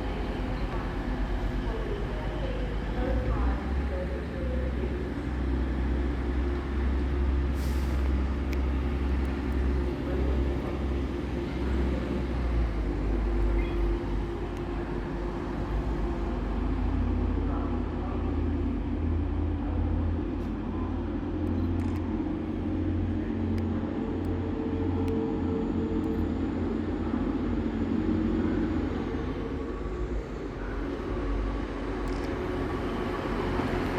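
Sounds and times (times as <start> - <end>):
train engine rumbling: 0.0 - 33.9.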